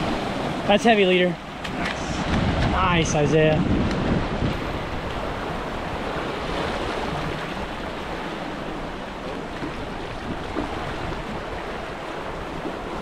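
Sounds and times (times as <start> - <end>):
waves washing over rocks: 0.0 - 13.0.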